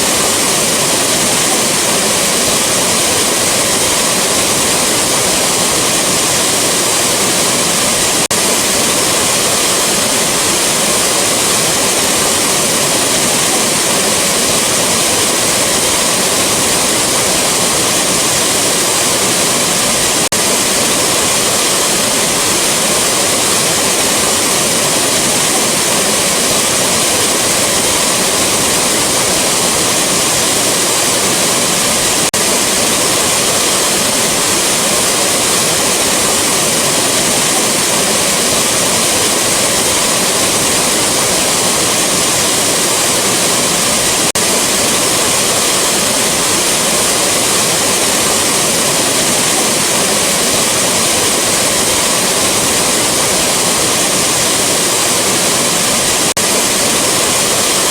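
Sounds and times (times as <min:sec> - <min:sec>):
rushing waterfall: 0:00.0 - 0:57.9.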